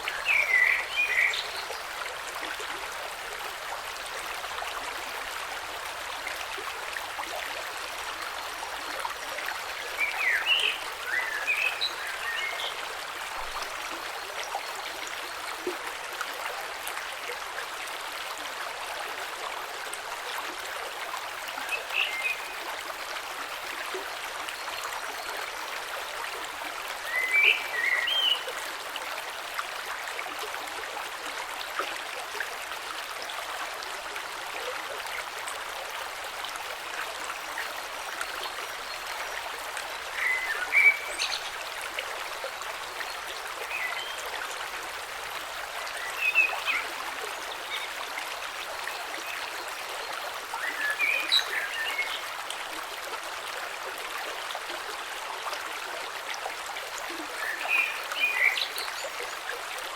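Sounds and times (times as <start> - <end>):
creek flowing over stones: 0.0 - 59.9.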